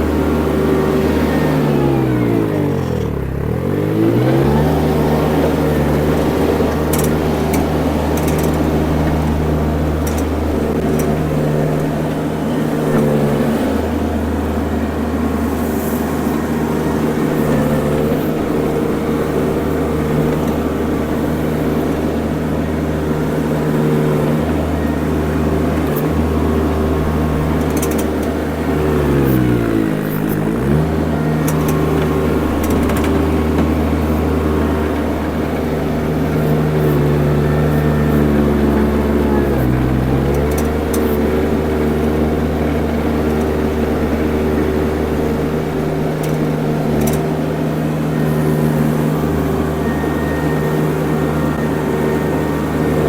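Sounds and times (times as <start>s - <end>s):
skid steer engine at high revs: 0.0s - 53.0s.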